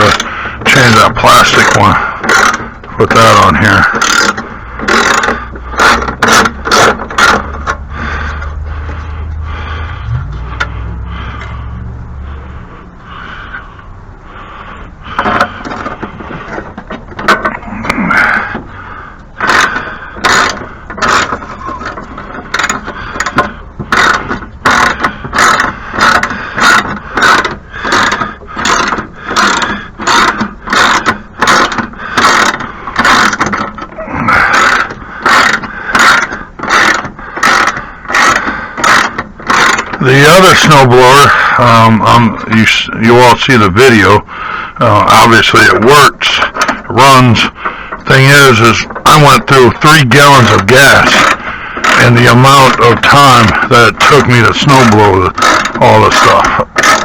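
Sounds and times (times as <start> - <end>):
ratchet wrench ratcheting: 0.0 - 11.6, 17.2 - 41.6, 45.8 - 57.0.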